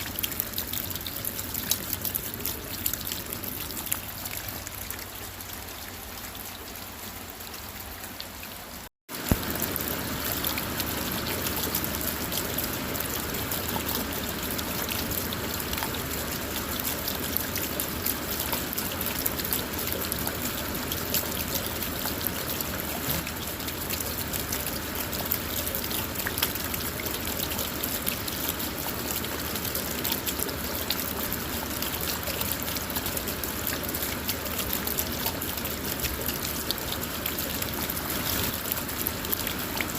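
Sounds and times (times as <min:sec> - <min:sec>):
rain on a car: 0:00.0 - 0:39.9.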